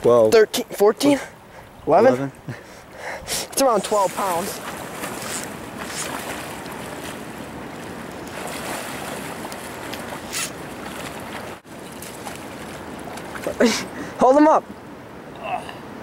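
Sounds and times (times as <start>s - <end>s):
river flowing: 0.0s - 16.0s.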